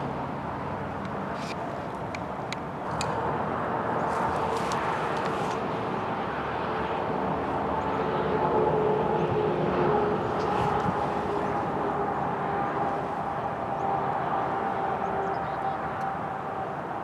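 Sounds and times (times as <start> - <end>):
distant engine hum: 0.0 - 17.0.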